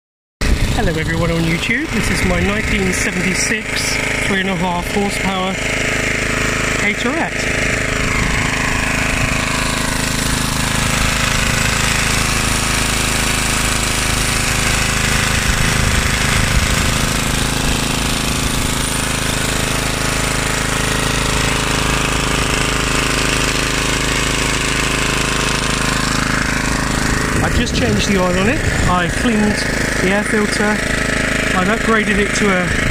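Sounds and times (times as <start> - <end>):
lawnmower engine running: 0.4 - 32.9.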